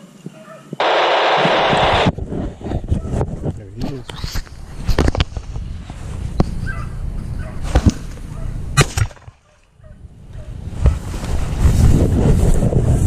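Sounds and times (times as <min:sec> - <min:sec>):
low outdoor rumble: 0:00.8 - 0:13.0.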